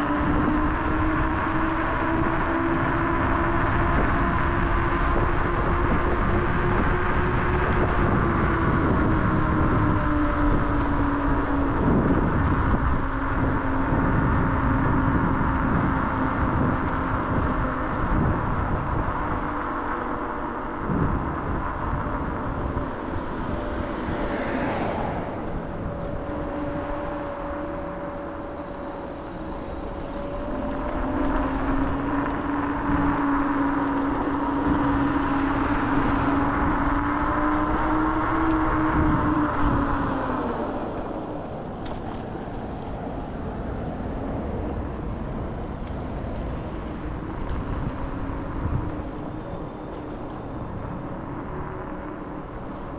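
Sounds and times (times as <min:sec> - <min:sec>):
electric motor whine: 0:00.0 - 0:44.0
wind rumble: 0:00.0 - 0:52.9.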